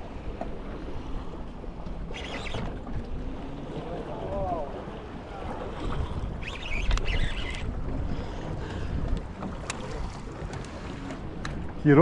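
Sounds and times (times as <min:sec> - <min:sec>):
wind buffeting microphone: 0:01.6 - 0:12.0.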